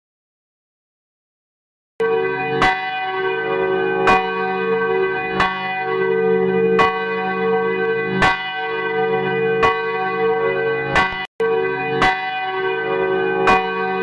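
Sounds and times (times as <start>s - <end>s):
church bell tolling: 2.0s - 14.0s.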